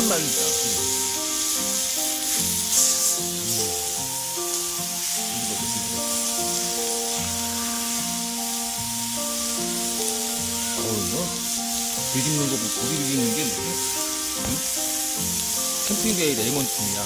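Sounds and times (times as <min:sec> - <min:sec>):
meat sizzling on a griddle: 0:00.0 - 0:17.0
slow background music: 0:00.0 - 0:17.0.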